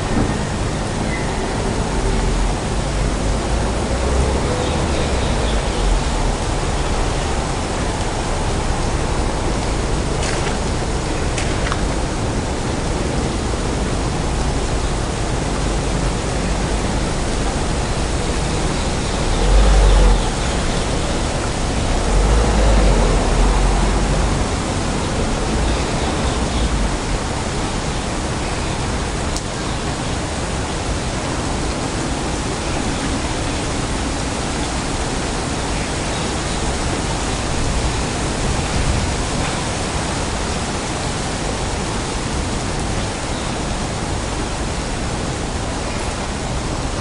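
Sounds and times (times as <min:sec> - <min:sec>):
hiss of wet street: 0:00.0 - 0:47.0
low rumbles: 0:00.0 - 0:47.0.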